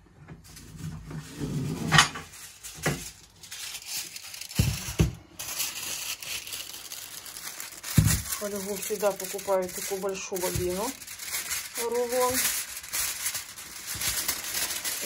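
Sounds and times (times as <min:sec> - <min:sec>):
aluminium foil crinkling: 0:00.5 - 0:15.0.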